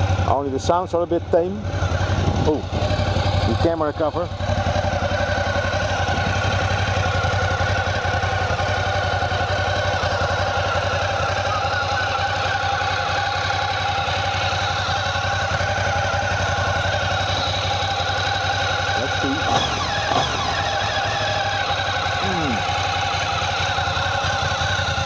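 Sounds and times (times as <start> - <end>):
dry clutch rattle: 0.0 - 25.0
motorcycle engine idling: 0.0 - 25.0.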